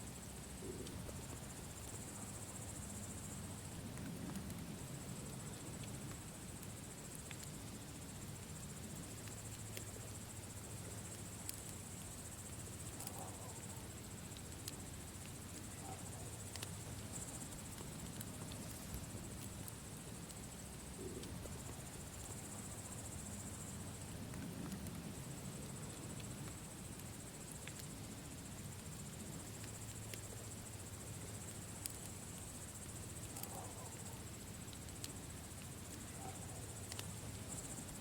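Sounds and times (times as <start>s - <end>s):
insects trilling: 0.0s - 38.0s
campfire crackling and popping: 0.2s - 36.1s, 36.7s - 38.0s.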